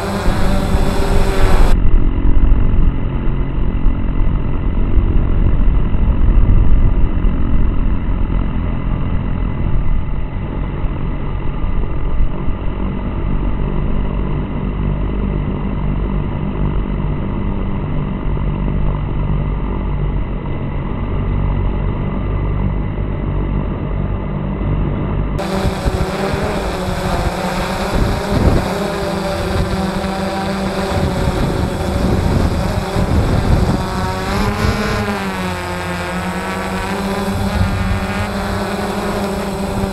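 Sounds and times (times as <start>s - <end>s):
drone motors whining: 0.0s - 6.3s, 12.4s - 39.9s
wind rumble on microphone: 0.0s - 39.9s.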